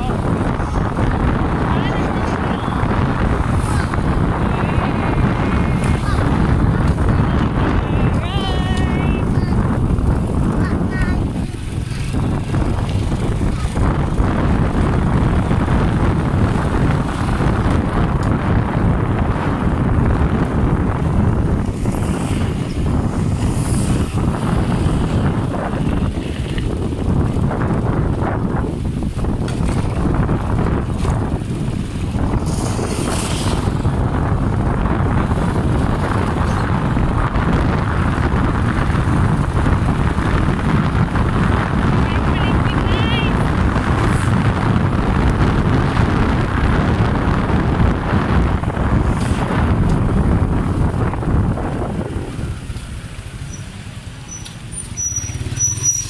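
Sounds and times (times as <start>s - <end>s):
vehicle engine running: 0.0s - 54.4s
wind buffeting microphone: 0.0s - 56.0s.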